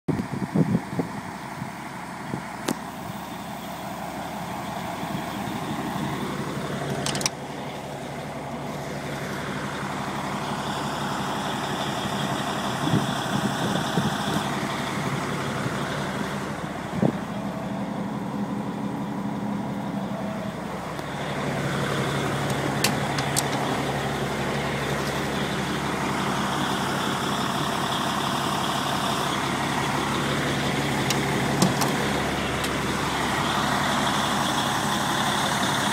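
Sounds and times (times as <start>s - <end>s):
fire engine idling: 0.1s - 35.9s.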